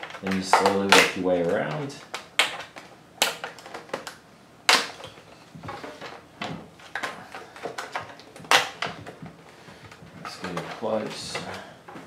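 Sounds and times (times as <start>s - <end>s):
plastic clips popping loose: 0.0s - 12.0s
plastic scraping: 0.0s - 12.0s.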